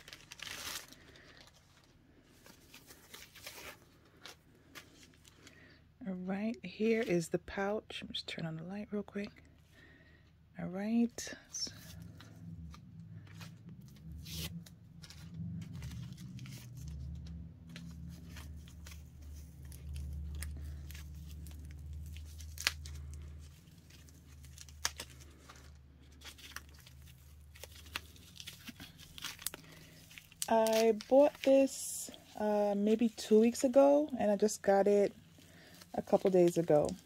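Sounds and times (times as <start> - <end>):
packaging rustling and crinkling: 0.0 - 5.7, 11.3 - 37.0
low steady hum: 0.0 - 37.0.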